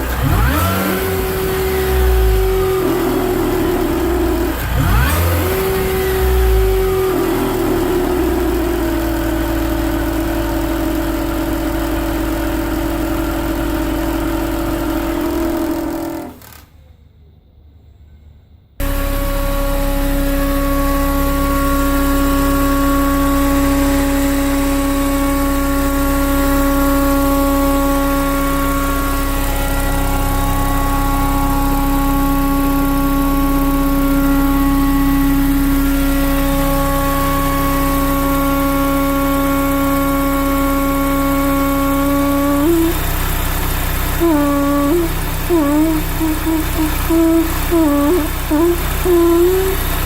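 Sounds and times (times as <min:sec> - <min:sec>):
car engine idling: 0:00.0 - 0:16.6, 0:18.8 - 0:50.0
supercharger whine: 0:00.0 - 0:17.3, 0:18.8 - 0:50.0.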